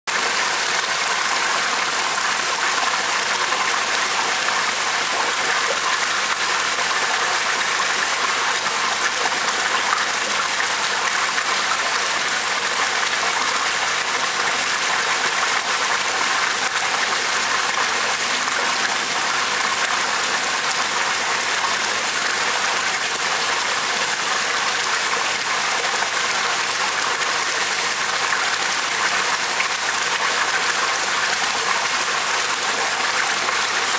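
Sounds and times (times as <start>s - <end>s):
water rushing into pond: 0.1s - 33.9s.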